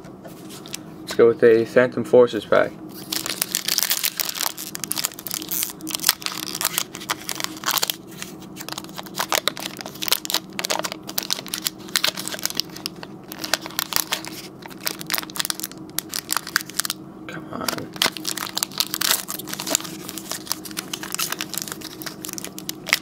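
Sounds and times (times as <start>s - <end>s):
foil pack crinkling and tearing: 2.9s - 17.0s, 17.6s - 23.0s.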